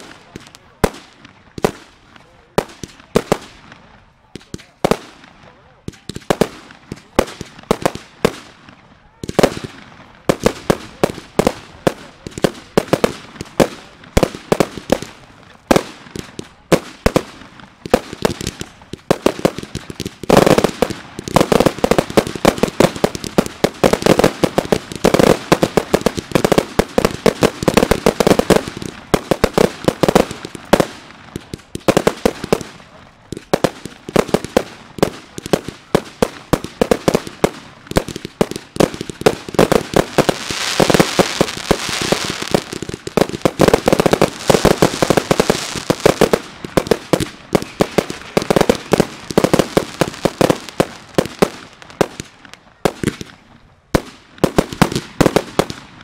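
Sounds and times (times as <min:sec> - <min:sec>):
firework bangs: 0:00.0 - 0:56.0
firework crackling: 0:00.0 - 0:56.0.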